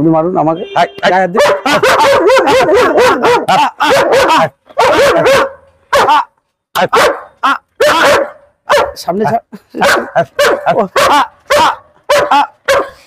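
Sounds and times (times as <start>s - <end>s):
dog barking aggressively: 1.3s - 13.0s.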